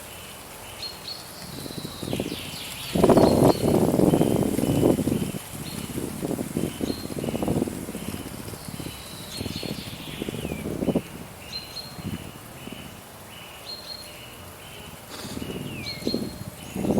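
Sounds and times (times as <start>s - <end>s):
wind gusting: 1.3s - 13.4s, 14.4s - 16.9s.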